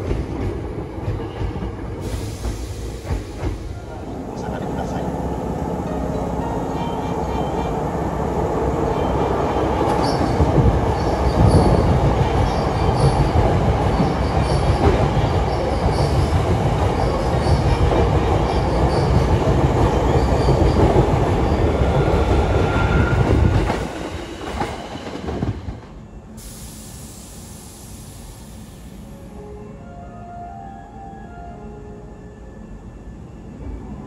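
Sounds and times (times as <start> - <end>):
train wheels rumbling on rail: 0.0 - 29.2.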